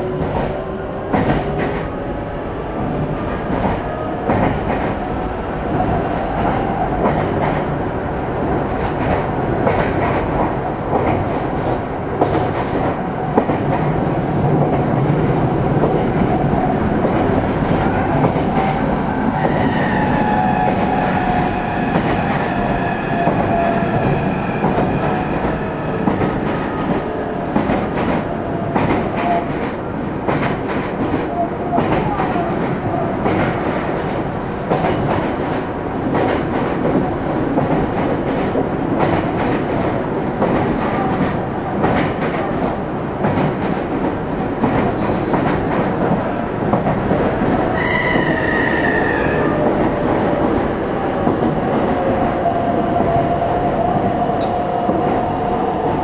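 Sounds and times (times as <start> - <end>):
train rolling noise: 0.0 - 56.0.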